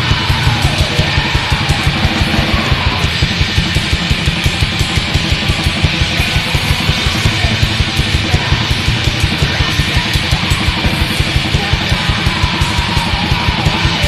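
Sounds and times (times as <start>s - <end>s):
distorted guitar: 0.0s - 14.0s
fast pulsing drums: 0.0s - 14.0s.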